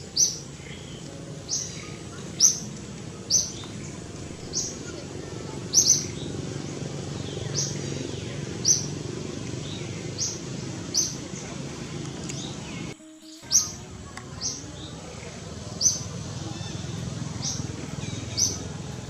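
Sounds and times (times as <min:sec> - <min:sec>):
bird chirping: 0:00.0 - 0:19.0
low background noise: 0:00.0 - 0:19.0.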